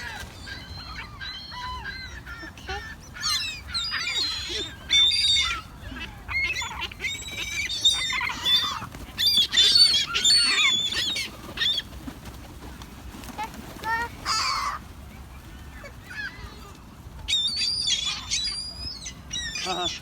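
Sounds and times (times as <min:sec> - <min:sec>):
seagulls squawking: 0:00.0 - 0:12.4, 0:13.2 - 0:20.0.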